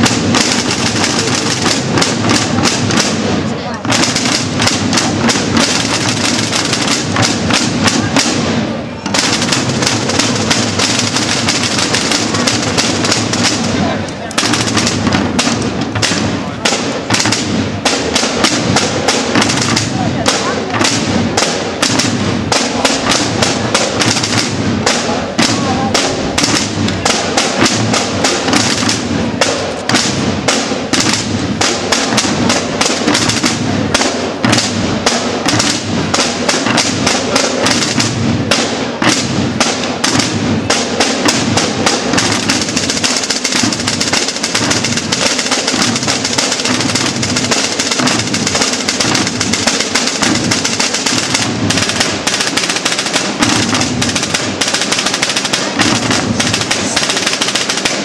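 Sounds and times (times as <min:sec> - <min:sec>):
snare and bass drums beating: 0:00.0 - 0:58.0.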